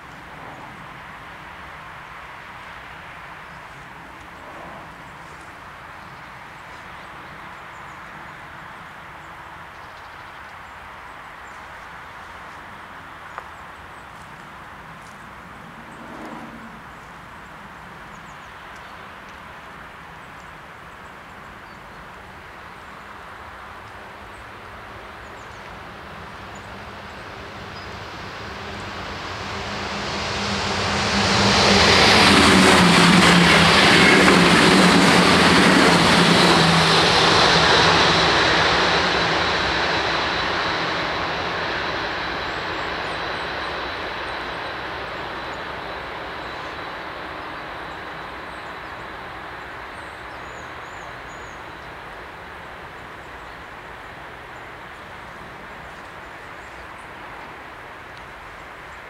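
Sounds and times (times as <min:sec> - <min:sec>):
electric train passing: 0:00.0 - 0:20.1, 0:22.2 - 0:59.0.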